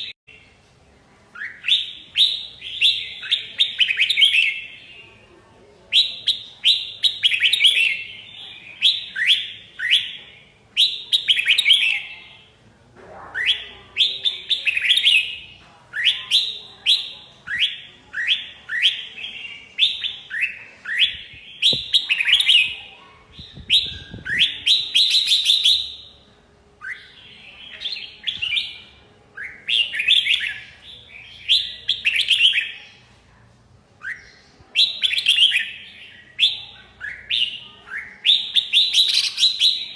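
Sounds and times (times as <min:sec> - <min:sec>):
bulbul singing whistled phrases: 0:01.4 - 0:05.0, 0:05.9 - 0:12.2, 0:13.4 - 0:33.0, 0:34.0 - 0:39.9.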